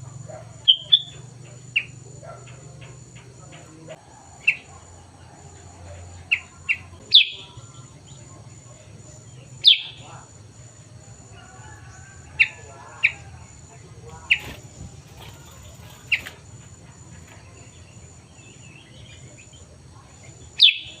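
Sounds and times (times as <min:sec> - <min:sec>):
bird chirping: 0:00.2 - 0:10.3, 0:11.8 - 0:21.0.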